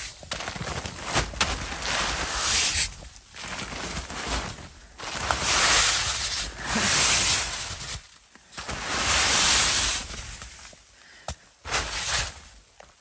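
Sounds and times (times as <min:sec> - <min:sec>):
wet snow sliding off tent: 0:00.0 - 0:10.7, 0:11.6 - 0:12.6.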